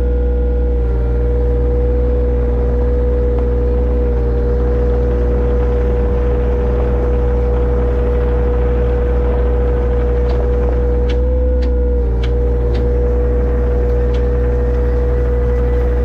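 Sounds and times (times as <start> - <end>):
digging machine engine running: 0.0 - 16.0.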